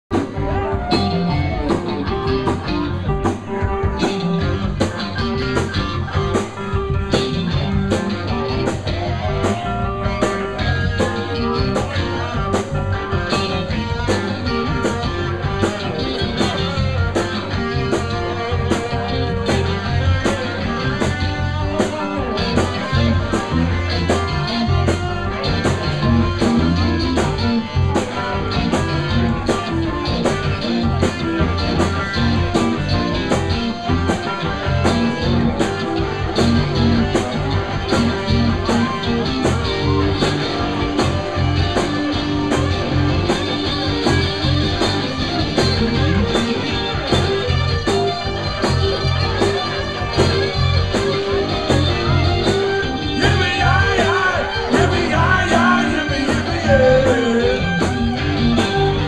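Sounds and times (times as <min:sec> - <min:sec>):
electric guitar: 0:00.0 - 0:59.0
rock band playing: 0:00.0 - 0:59.0.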